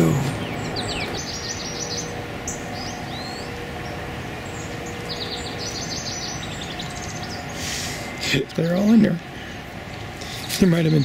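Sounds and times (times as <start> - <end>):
bird chirp: 0.0 - 11.0
songbirds trilling: 0.0 - 11.0.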